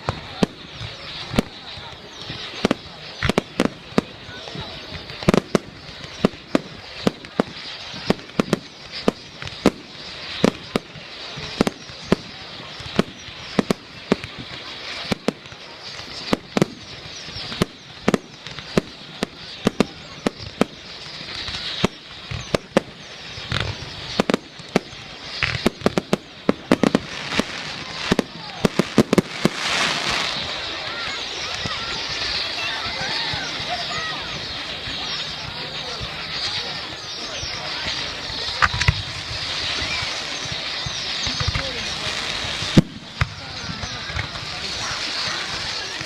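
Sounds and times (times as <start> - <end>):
fireworks bangs: 0.0 - 46.0
hissing crackle: 0.0 - 46.0.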